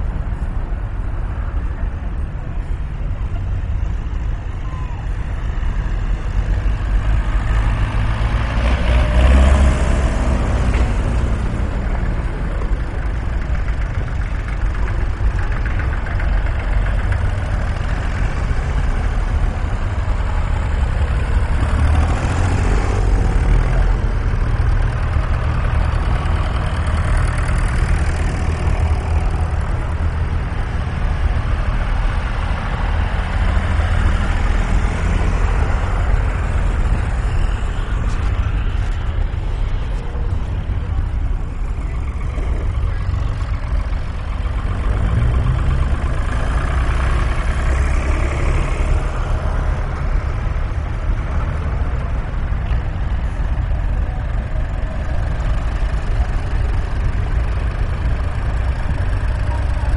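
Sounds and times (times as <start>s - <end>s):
tractor engines rumbling: 0.0s - 59.9s.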